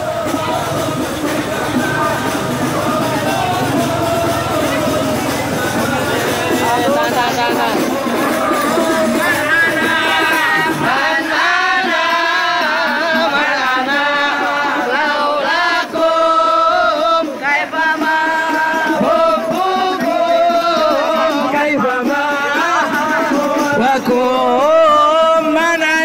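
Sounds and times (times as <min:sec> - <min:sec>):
men singing devotional song: 0:00.0 - 0:26.0.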